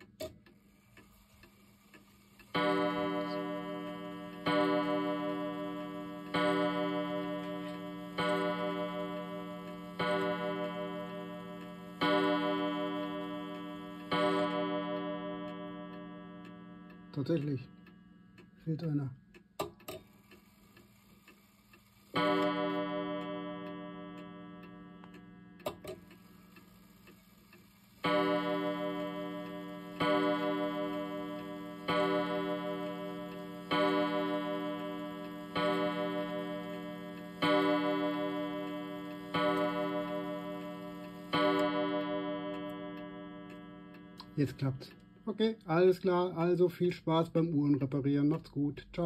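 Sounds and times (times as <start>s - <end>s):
pendulum clock ticking: 0.0s - 49.0s
clock striking a gong: 2.2s - 19.1s, 22.1s - 27.1s, 27.9s - 48.4s.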